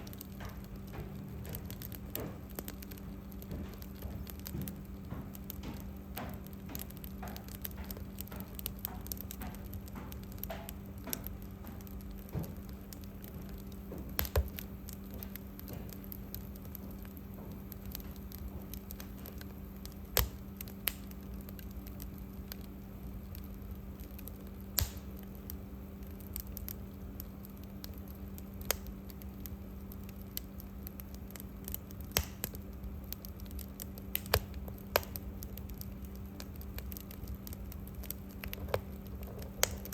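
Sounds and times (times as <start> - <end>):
sharp pops of fire: 0.0 - 39.9
steady low hum: 0.0 - 39.9
wood fire crackling: 0.0 - 39.9.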